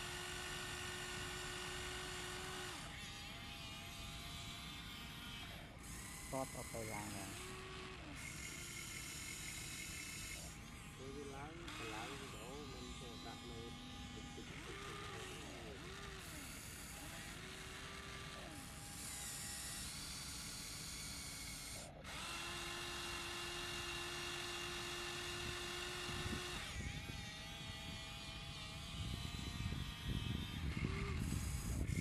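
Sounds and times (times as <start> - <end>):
electric gear motors whining: 0.0 - 32.0.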